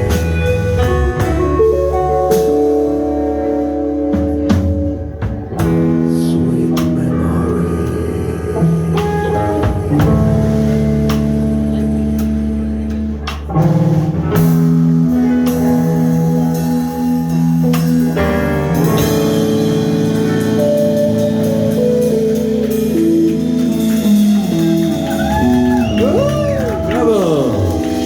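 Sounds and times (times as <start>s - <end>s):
jazz band playing: 0.0s - 28.0s.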